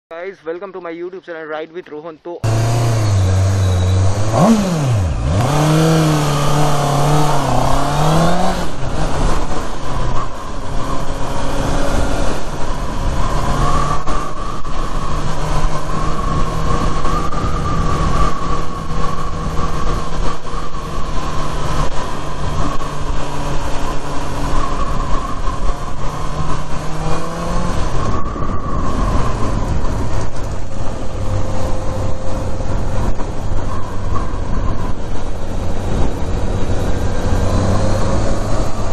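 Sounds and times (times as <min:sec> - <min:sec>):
motorcycle engine revving: 0:02.4 - 0:38.9
wind noise: 0:02.4 - 0:38.9.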